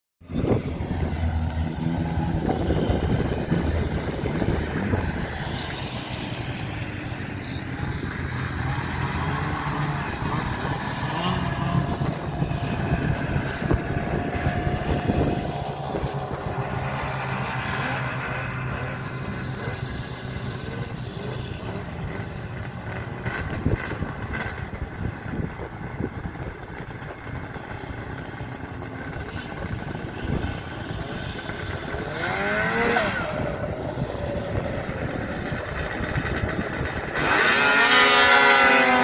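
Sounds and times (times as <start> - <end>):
racing engines droning: 0.2 - 39.0
road or wind noise: 0.2 - 39.0.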